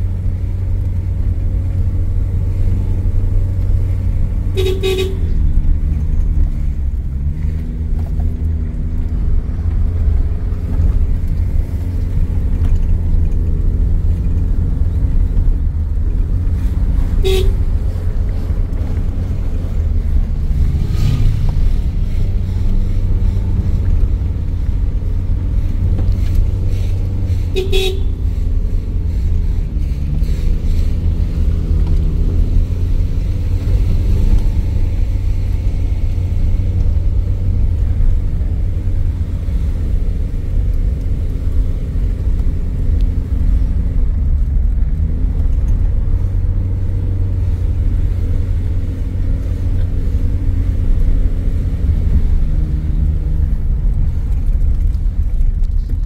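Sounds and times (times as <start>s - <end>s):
low road rumble: 0.0s - 56.0s
vehicle engine running: 0.0s - 56.0s.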